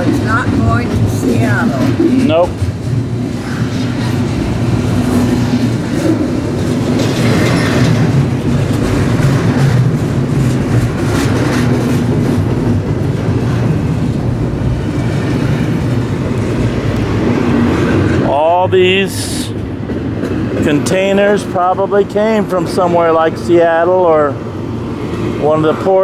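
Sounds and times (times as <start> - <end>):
wheels clacking: 0.0 - 23.4
freight train rumbling past: 0.0 - 26.0.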